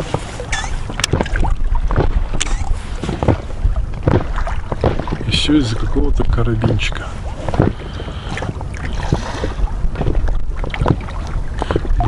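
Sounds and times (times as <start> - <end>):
waves lapping against boat: 0.0 - 12.0
wind rumble on microphone: 0.0 - 12.0.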